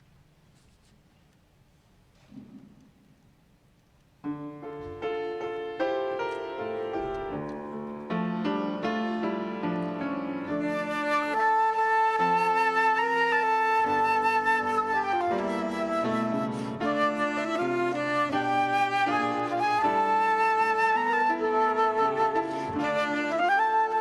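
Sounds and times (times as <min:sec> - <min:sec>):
piano playing arpeggiated chords: 0:04.3 - 0:24.0.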